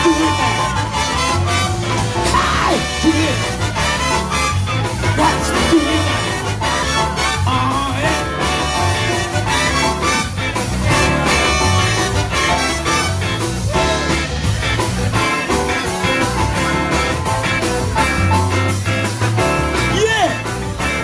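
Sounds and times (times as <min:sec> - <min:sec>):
trumpet and saxophone: 0:00.0 - 0:18.6
drum kit beat: 0:00.0 - 0:21.0
electric guitar: 0:00.0 - 0:21.0.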